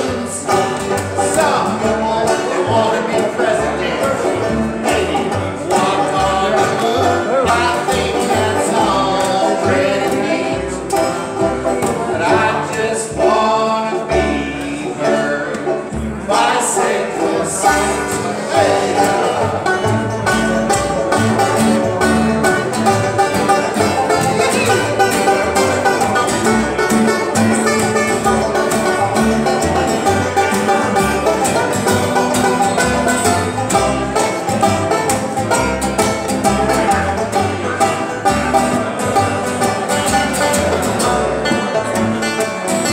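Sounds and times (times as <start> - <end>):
banjo: 0.0 - 42.9
bluegrass trio playing: 0.0 - 42.9
upright bass line: 0.0 - 42.9.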